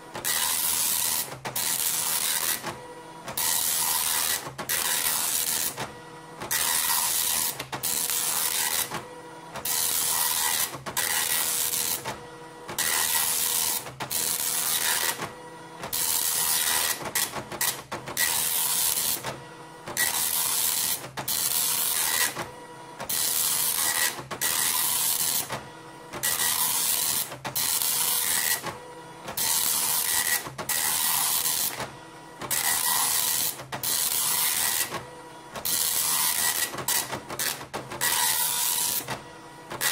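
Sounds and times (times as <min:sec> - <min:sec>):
dot matrix printer buzzing: 0:00.0 - 0:39.9.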